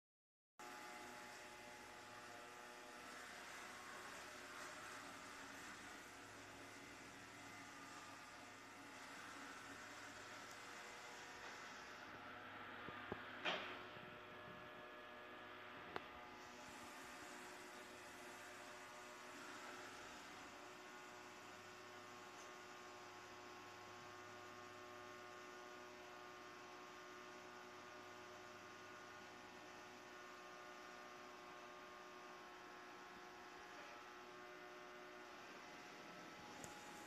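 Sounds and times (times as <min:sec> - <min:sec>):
robot vacuum cleaner humming: 0:00.6 - 0:22.6, 0:29.2 - 0:37.0.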